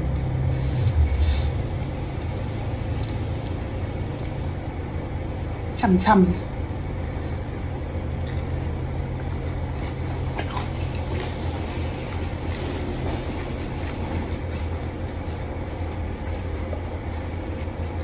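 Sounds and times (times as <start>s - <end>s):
steady low hum: 0.0s - 18.0s
chewing crunchy food: 1.6s - 4.9s, 6.4s - 18.0s.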